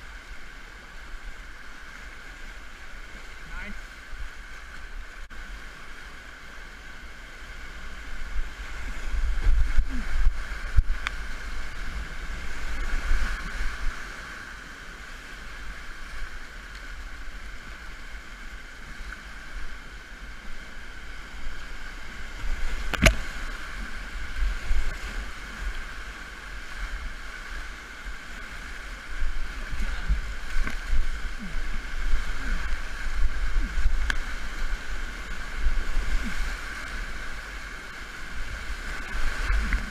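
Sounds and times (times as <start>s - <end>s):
water surges rumbling: 0.0s - 39.9s
whitewater rushing: 0.0s - 39.9s.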